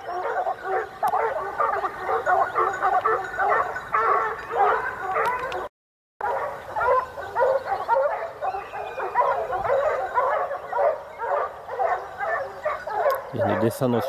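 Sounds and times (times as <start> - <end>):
pack of dogs barking and yelping: 0.0 - 14.0.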